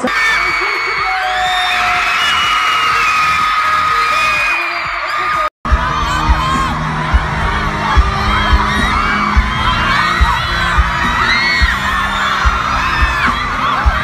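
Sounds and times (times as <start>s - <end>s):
crowd screaming and cheering: 0.0s - 14.0s
music: 0.0s - 14.0s.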